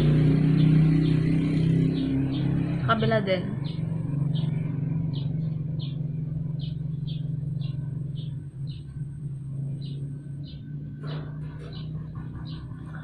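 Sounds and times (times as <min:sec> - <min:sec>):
motor rumbling: 0:00.0 - 0:13.0.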